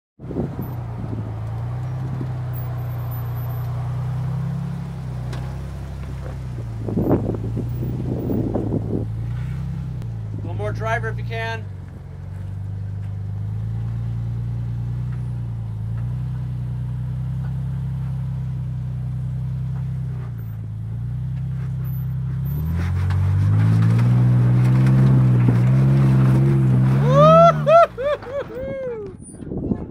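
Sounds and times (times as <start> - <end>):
car engine revving: 0.2 - 28.8.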